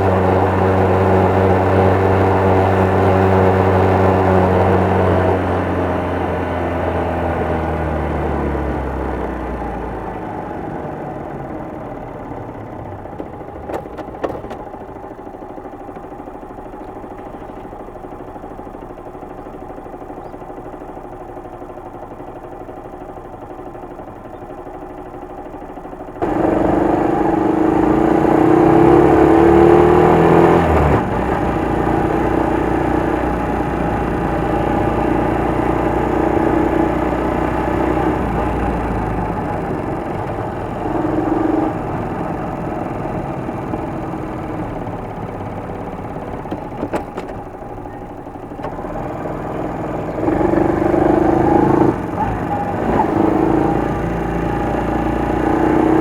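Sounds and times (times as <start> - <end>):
small motorcycle engine running: 0.0 - 56.0.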